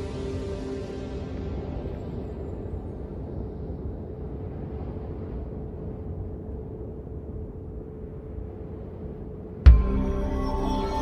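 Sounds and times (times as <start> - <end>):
faint sustained tone: 0.0 - 11.0
low rumbling drone: 0.0 - 11.0.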